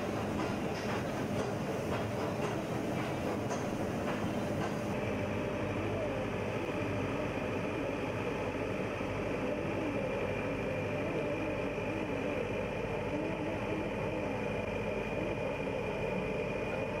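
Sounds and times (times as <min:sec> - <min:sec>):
locomotive machinery humming: 0:00.0 - 0:17.0.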